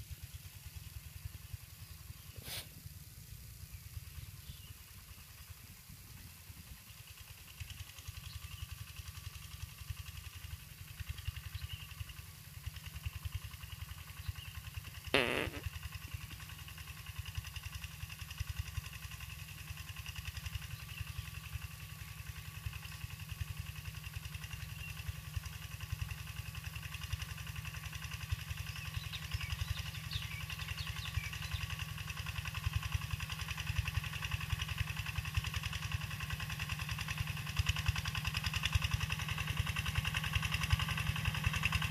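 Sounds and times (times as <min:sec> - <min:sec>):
diesel tractor engine chugging: 0:00.0 - 0:41.9.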